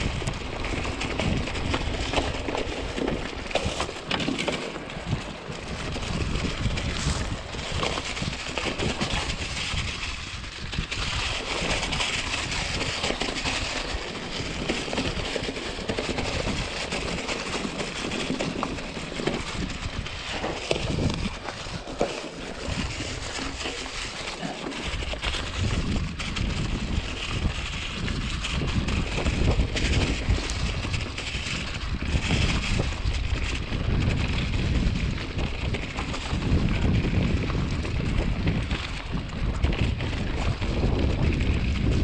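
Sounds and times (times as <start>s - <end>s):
bike knocking and rattling: 0.0s - 42.0s
tyres rolling over dirt: 0.0s - 42.0s.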